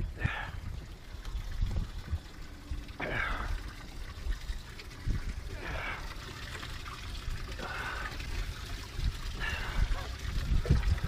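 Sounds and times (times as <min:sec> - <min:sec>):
wind buffeting microphone: 0:00.0 - 0:06.2, 0:07.0 - 0:11.0
water trickling and splashing: 0:00.0 - 0:11.0.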